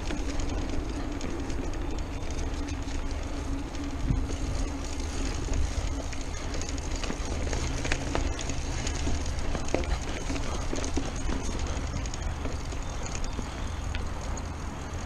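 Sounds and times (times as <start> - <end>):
tyre rumble on dirt: 0.0 - 13.6
bike rattling over bumps: 0.0 - 15.0
wind buffeting microphone: 0.0 - 15.0.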